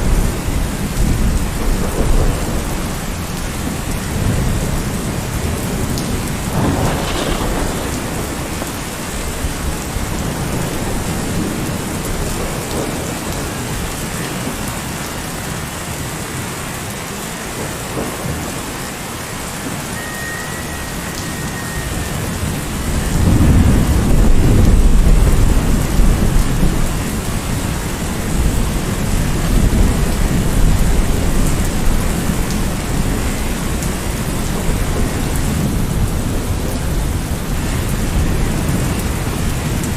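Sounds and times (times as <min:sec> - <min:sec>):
heavy rain: 0:00.0 - 0:39.9
thunder rumble: 0:00.0 - 0:39.9.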